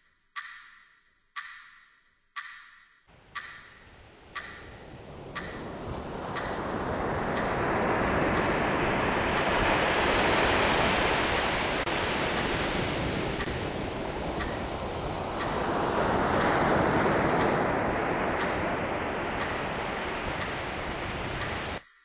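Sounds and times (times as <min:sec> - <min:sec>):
sea surf breaking on beach: 0:04.1 - 0:21.8.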